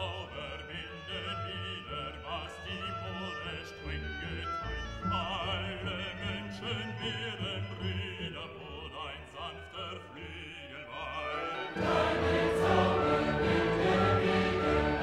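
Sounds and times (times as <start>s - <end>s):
classical accompaniment: 0.0s - 15.0s
operatic singing with vibrato: 0.0s - 15.0s.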